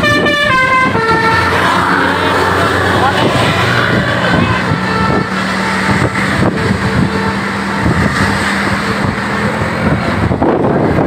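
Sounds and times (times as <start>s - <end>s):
bus engine humming: 0.0s - 11.0s
road and traffic noise: 0.0s - 11.0s.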